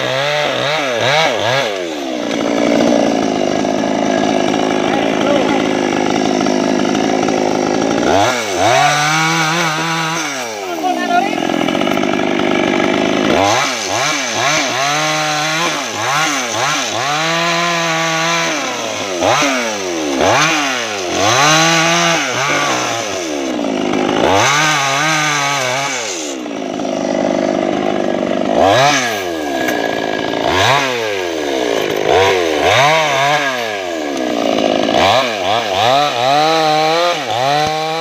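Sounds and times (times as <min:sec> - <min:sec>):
chainsaw revving: 0:00.0 - 0:38.0.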